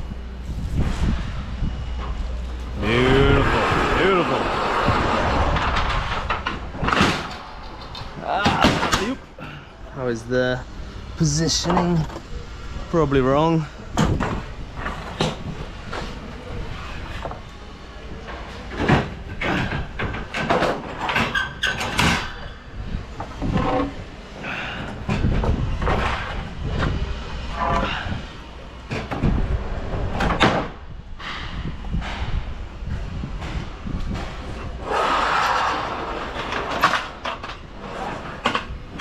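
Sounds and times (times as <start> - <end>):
knocks and clatters of unloading: 0.5 - 12.5, 13.6 - 39.0.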